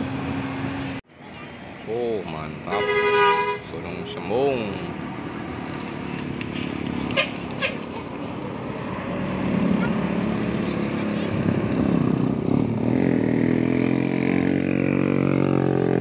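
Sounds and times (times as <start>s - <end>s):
bus diesel engines labouring: 0.0s - 16.0s.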